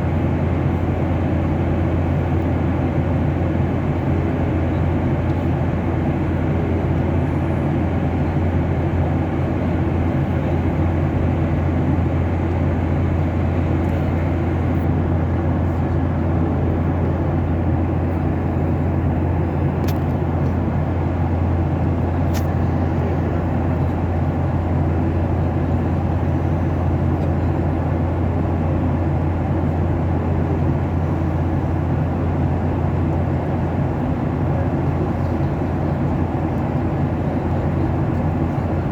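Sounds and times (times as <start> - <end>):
aeroplane cabin hum: 0.0 - 38.9.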